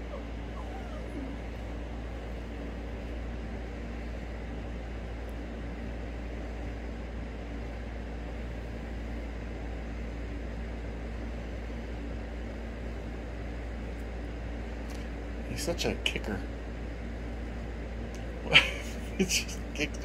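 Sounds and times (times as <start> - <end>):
background machine hum: 0.0 - 20.0.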